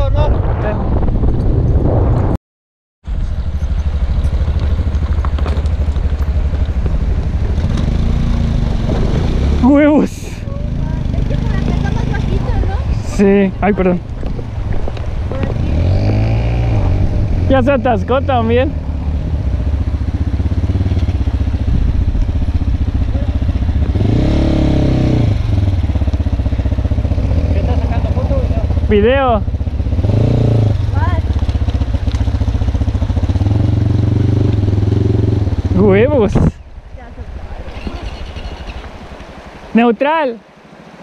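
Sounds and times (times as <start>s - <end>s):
motorcycle engine at low revs: 3.1s - 39.6s.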